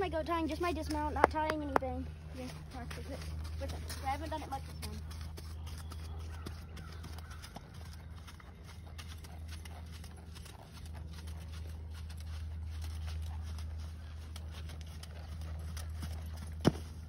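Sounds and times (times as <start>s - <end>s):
steady low rumble: 0.0s - 17.0s
horse hoofbeats on sand: 0.5s - 17.0s.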